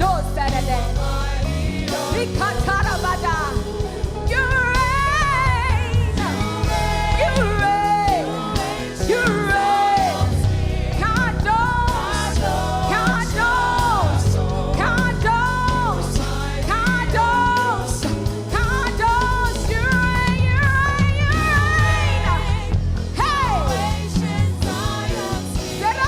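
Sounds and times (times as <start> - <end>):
band with bass and drums: 0.0 - 26.0.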